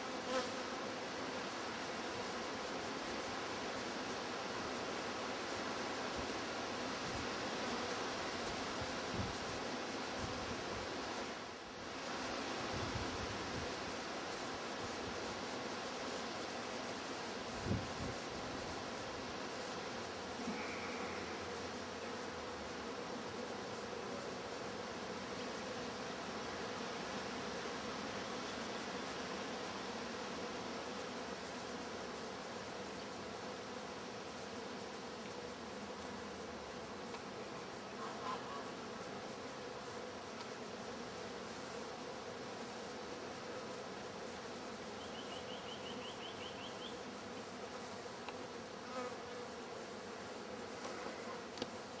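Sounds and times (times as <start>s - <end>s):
honey bees buzzing: 0.0s - 52.0s.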